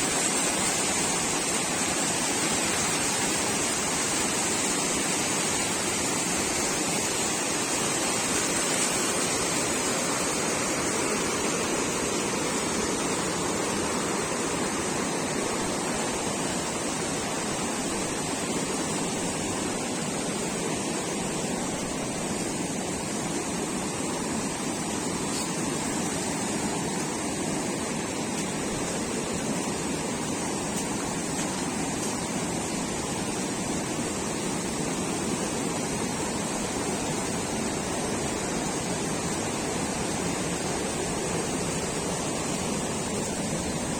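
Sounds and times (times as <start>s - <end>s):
water rushing: 0.0s - 43.9s.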